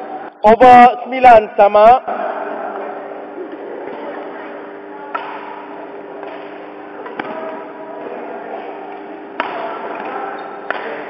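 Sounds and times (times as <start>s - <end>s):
steady hum in large hall: 0.0s - 11.0s.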